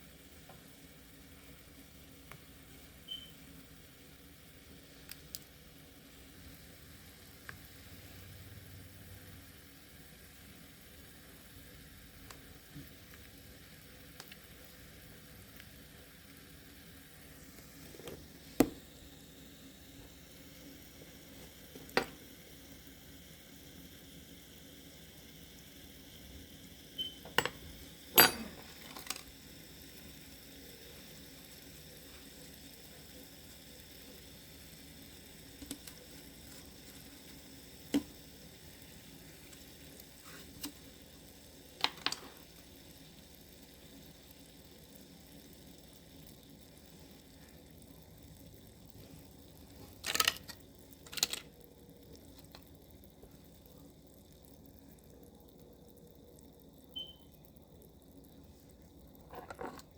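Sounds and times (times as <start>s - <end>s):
tablets fizzing in water: 0.3s - 59.9s.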